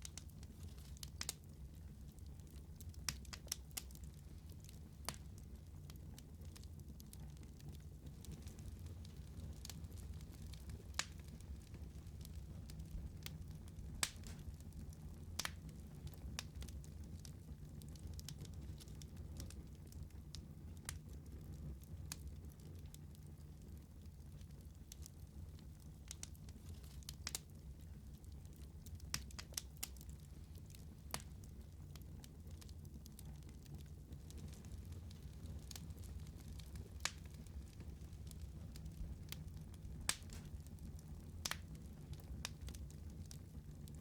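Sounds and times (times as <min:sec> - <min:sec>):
fire crackling and popping: 0:00.0 - 0:44.0
wood fire rumbling: 0:00.0 - 0:44.0.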